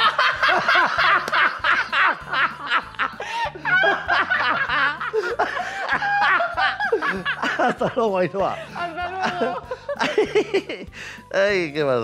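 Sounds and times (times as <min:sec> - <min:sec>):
man and woman laughing: 0:00.0 - 0:11.0.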